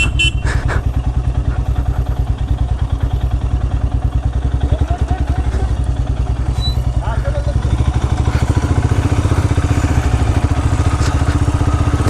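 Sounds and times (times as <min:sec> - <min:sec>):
motorcycle clatter: 0:00.0 - 0:12.0
motorcycle engine running: 0:00.0 - 0:12.0.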